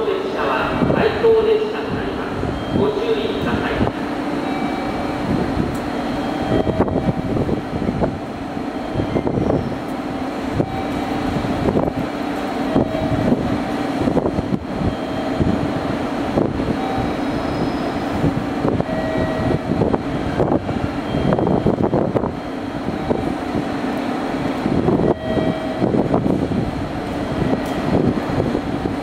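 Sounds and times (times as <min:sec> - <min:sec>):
rumble of rail traffic: 0:00.0 - 0:29.0.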